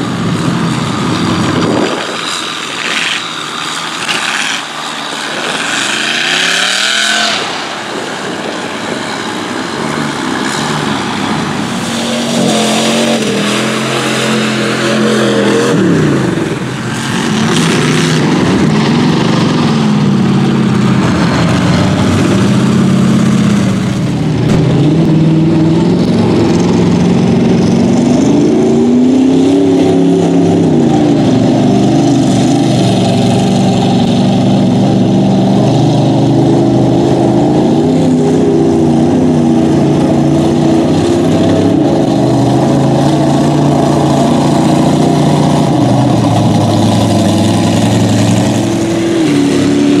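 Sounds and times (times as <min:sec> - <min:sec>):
truck engines revving: 0:00.0 - 0:50.0.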